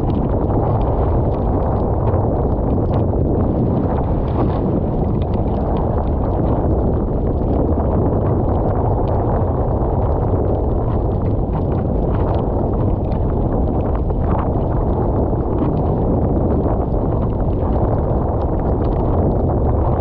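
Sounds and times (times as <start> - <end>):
rough sea water rushing: 0.0 - 20.0
wind buffeting microphone: 0.0 - 20.0.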